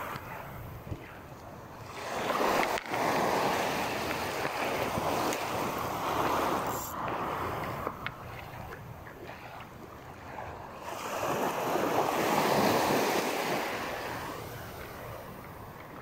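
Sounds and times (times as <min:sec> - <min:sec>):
small waves washing over sand: 0:01.7 - 0:16.0.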